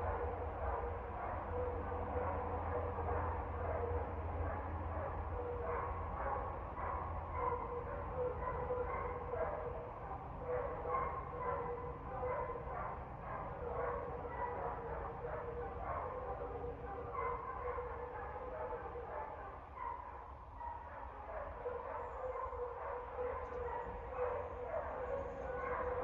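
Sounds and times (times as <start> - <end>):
dogs barking: 0.0 - 26.0.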